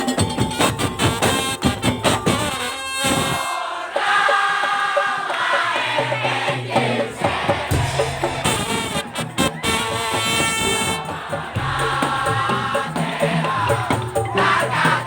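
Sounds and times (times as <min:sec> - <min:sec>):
rapid drum and percussion strokes: 0:00.0 - 0:15.0.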